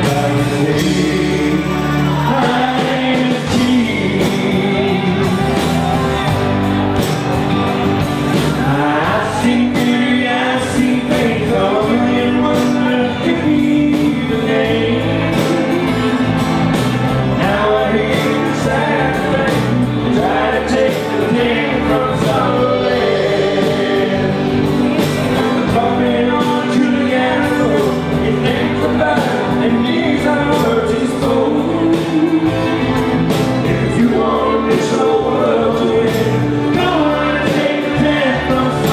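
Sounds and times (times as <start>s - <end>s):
male singer: 0.0s - 6.4s, 8.4s - 38.9s
live band playing: 0.0s - 38.9s.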